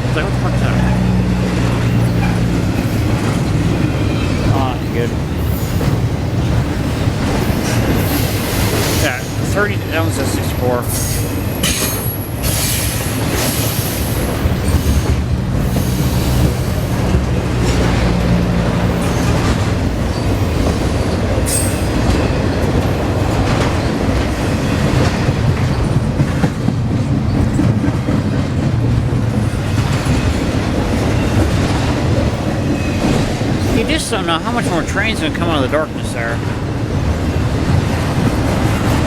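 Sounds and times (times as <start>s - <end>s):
freight train rumbling: 0.0s - 39.0s
train clanks: 0.0s - 39.0s.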